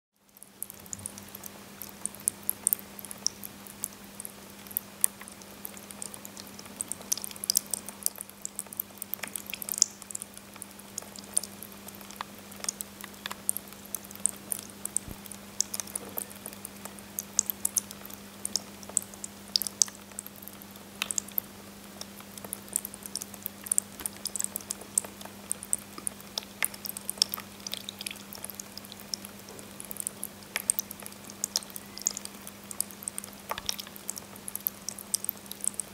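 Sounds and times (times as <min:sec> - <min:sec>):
water dripping onto pebbles: 0:00.2 - 0:35.9.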